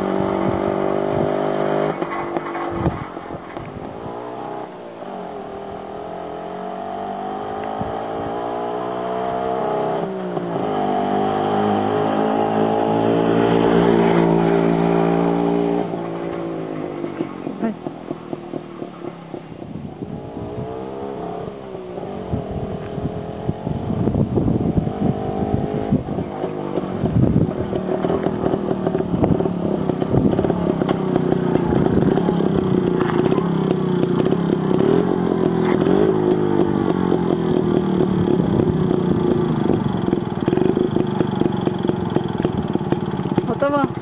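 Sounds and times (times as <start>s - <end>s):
two-stroke motorcycle engine: 0.0s - 44.0s.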